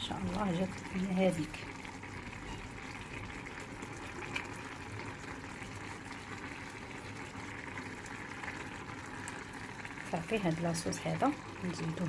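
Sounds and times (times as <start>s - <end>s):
broth bubbling in a pan: 0.0s - 12.0s.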